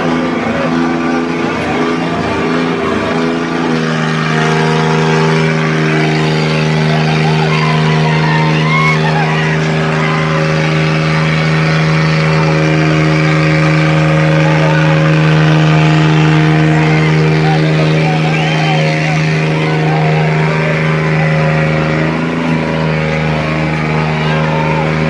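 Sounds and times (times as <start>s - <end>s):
diesel engine running hard: 0.0s - 25.0s.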